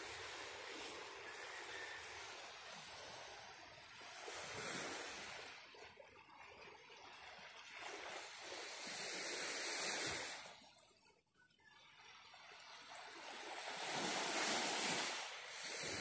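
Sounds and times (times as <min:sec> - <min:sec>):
small waves washing onto sand: 0:00.0 - 0:10.8, 0:11.7 - 0:16.0.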